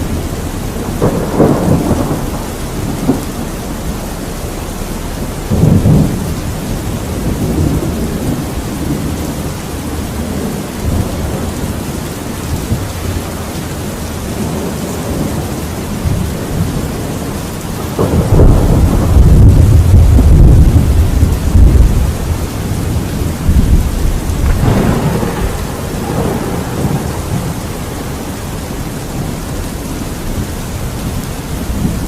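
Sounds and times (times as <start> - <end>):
rolling thunder: 0.0 - 32.0
steady rain: 0.0 - 32.0.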